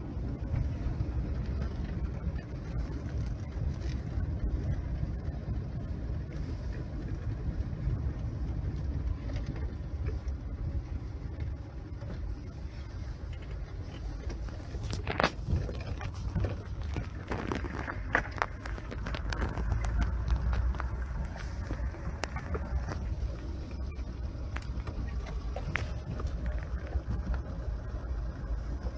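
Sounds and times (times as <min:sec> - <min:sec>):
vehicle engine rumbling: 0:00.0 - 0:28.9.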